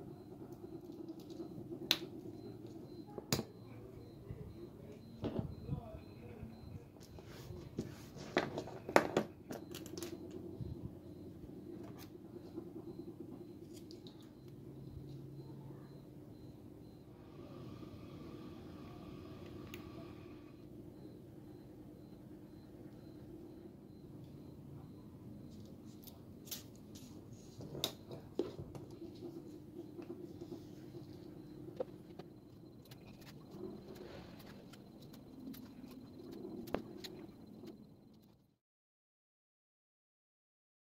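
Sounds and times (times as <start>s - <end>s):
steady low hum: 0.0s - 38.5s.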